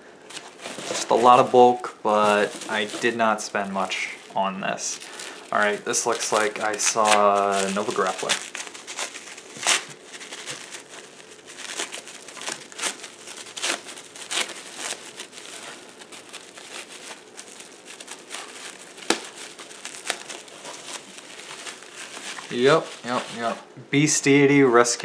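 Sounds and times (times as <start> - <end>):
trading cards rustling: 0.2 - 23.6.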